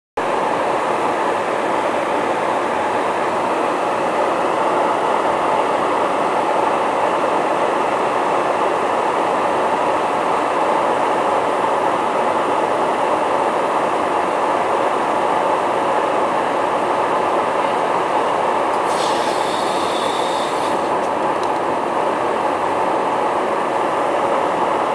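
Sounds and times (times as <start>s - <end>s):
aircraft cabin airflow and engine: 0.2s - 24.9s.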